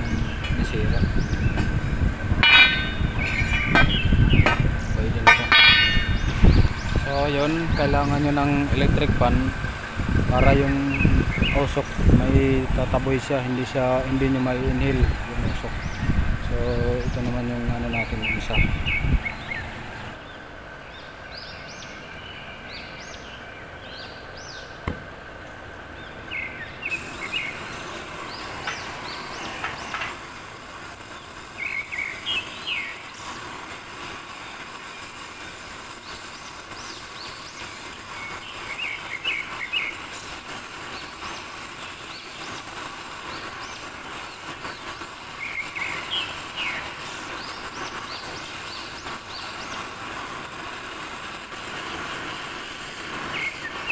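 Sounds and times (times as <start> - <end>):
gas torch flame hissing: 0.0 - 20.2, 26.8 - 53.9
small birds chirping: 0.0 - 53.9.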